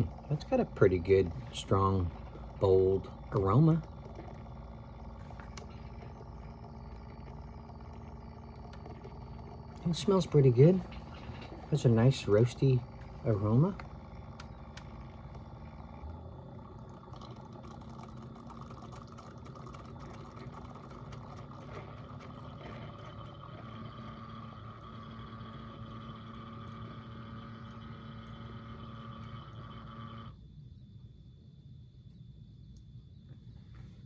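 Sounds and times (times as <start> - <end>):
coffee running into cup: 0.0 - 30.3
coffee maker pump humming: 0.0 - 30.5.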